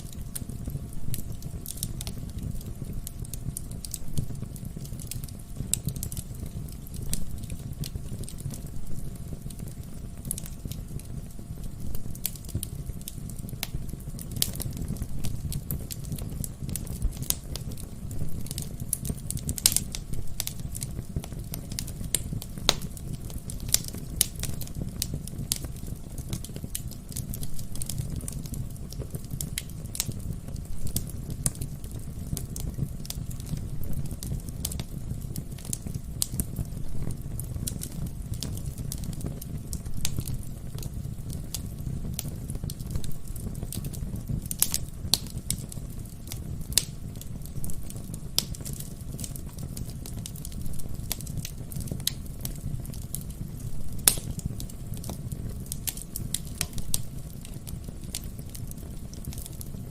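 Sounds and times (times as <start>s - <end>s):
burning logs crackling and popping: 0.0s - 59.9s
low rumble of flames: 0.0s - 59.9s.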